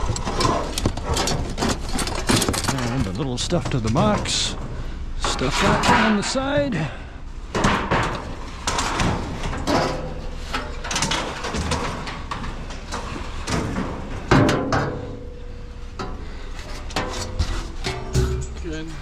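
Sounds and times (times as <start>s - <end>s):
scrap metal clanking and rattling: 0.0s - 19.0s.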